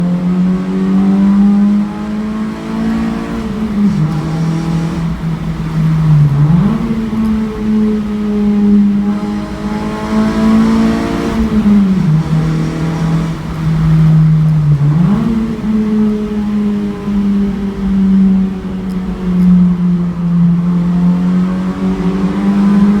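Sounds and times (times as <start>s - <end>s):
car engine echoing in tunnel: 0.0s - 23.0s.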